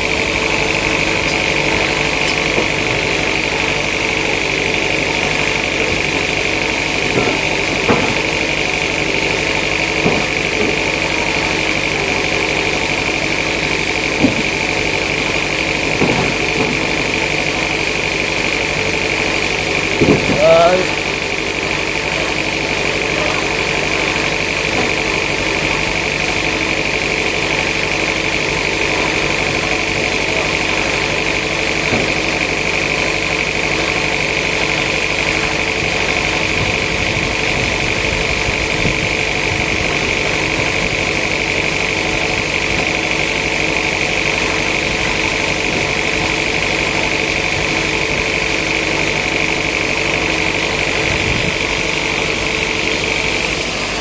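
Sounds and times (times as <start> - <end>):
high machine whine: 0.0 - 54.0
sawmill machinery humming: 0.0 - 54.0.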